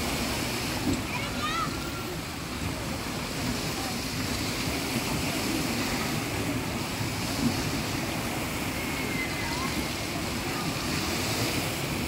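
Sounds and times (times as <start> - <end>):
water rushing and churning: 0.0 - 12.0.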